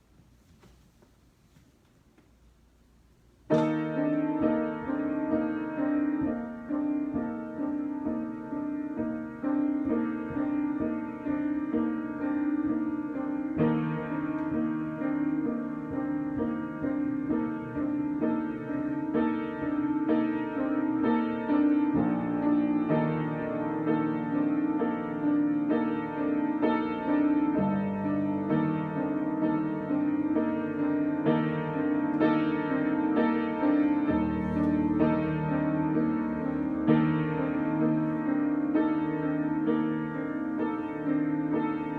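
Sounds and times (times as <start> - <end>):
solo piano: 0.0 - 41.9.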